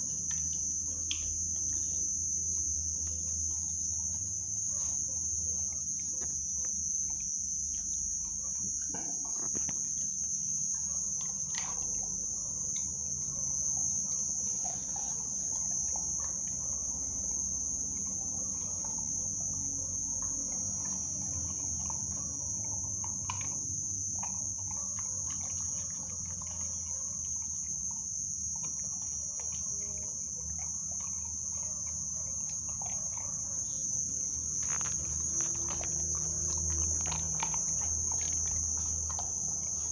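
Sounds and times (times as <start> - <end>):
crickets chirring: 0.0 - 39.9
puppy chewing and licking: 0.0 - 39.9.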